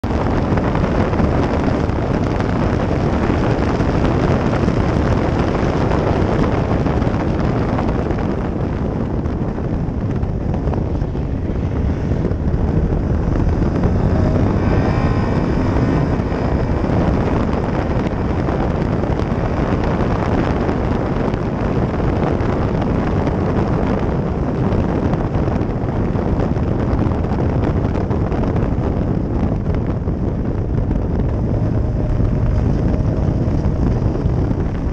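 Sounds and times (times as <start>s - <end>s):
race car engine: 0.0s - 34.9s
wind buffeting microphone: 0.0s - 34.9s.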